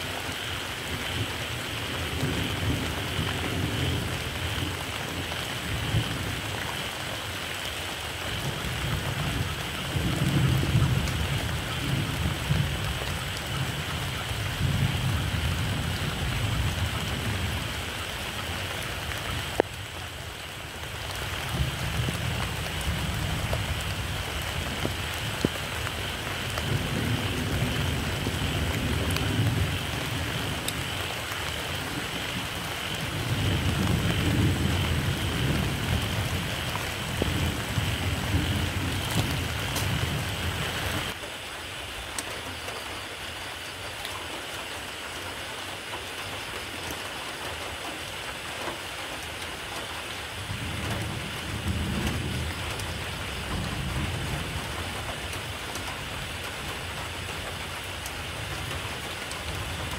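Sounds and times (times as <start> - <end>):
steady rain: 0.0 - 59.9
distant thunder rumbling: 0.1 - 7.3, 8.3 - 20.1, 20.8 - 41.2, 49.5 - 59.9.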